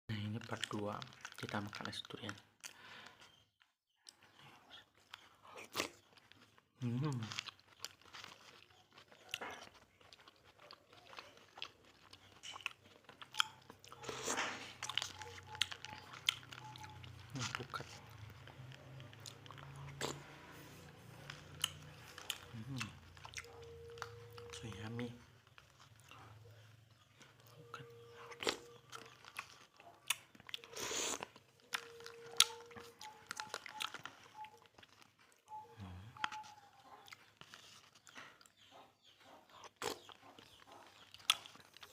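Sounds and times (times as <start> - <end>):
person chewing and crunching: 0.1 - 41.9.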